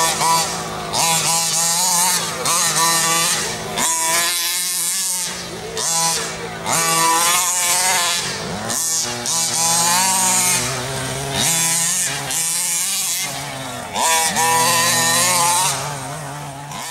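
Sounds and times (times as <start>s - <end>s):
two-stroke engine revving: 0.0s - 16.9s.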